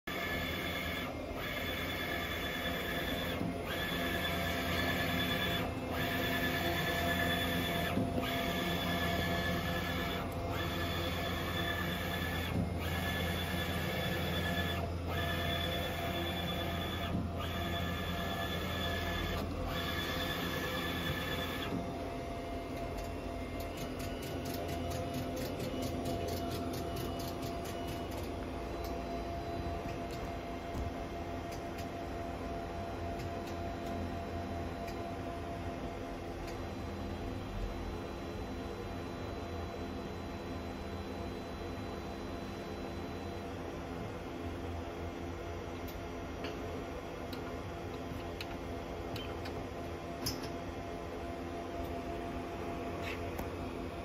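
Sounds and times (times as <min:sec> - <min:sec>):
printer carriage hum and whine: 0:00.1 - 0:54.0.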